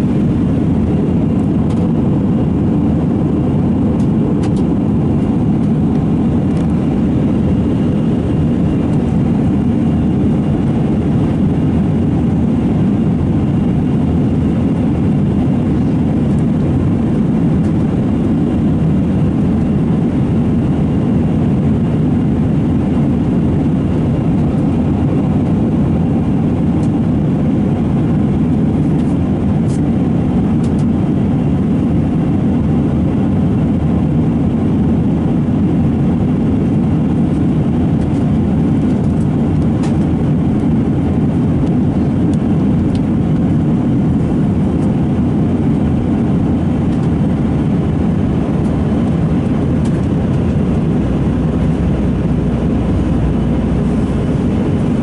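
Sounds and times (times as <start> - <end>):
airflow along fuselage: 0.0 - 55.0
airplane cabin drone: 0.0 - 55.0
turbofan engines: 0.0 - 55.0.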